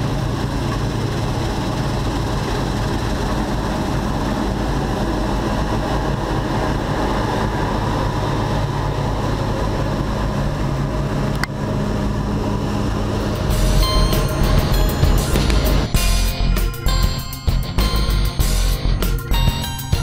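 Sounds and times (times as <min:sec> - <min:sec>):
combine harvester engine: 0:00.0 - 0:20.0
tractor engine running: 0:00.0 - 0:20.0.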